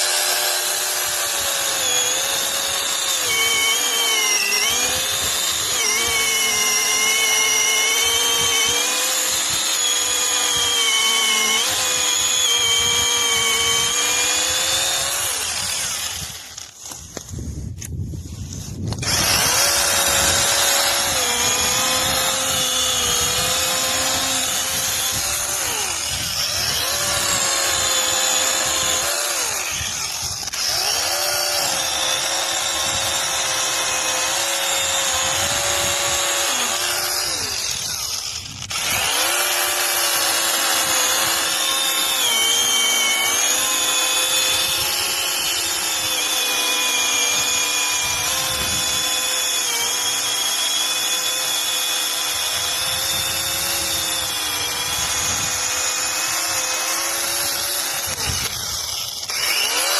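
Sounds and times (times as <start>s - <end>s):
mini chainsaw cutting branches: 0.0s - 59.9s.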